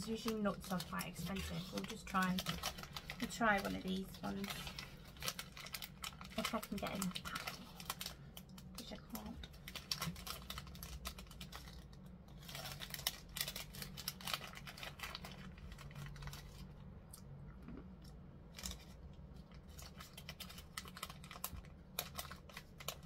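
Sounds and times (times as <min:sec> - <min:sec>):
snack pouch crinkling: 0:00.1 - 0:16.7, 0:18.5 - 0:23.0.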